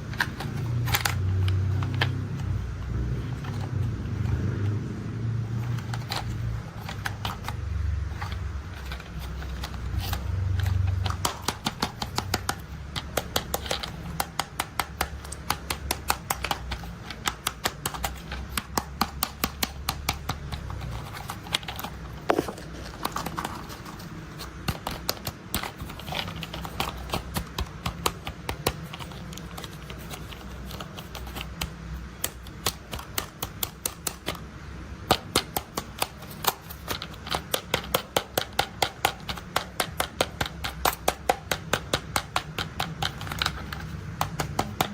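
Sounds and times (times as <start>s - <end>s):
plastic toy vehicles clicking: 0.0s - 4.8s, 5.4s - 44.9s.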